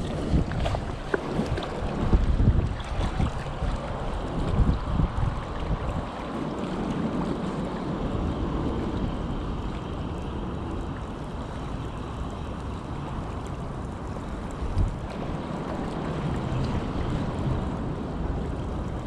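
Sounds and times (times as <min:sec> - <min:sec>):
small waves splashing: 0:00.0 - 0:19.0
wind buffeting microphone: 0:00.0 - 0:19.0.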